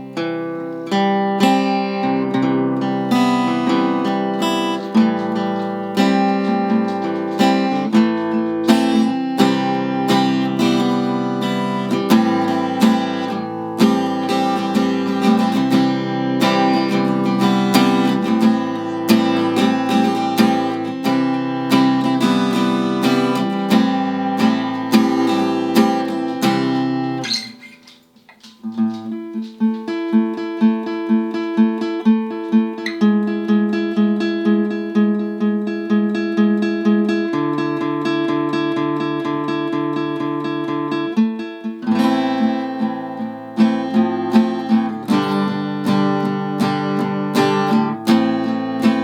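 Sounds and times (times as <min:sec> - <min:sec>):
acoustic guitar strumming: 0:00.0 - 0:49.0.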